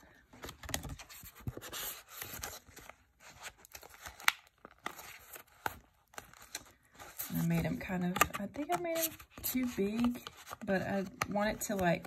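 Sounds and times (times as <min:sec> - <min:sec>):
plastic rustling and crinkling: 0:00.0 - 0:12.0.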